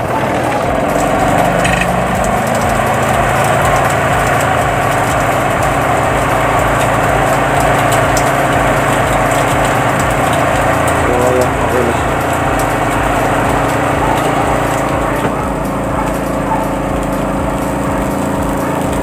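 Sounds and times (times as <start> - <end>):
spin dryer motor humming: 0.0 - 19.0.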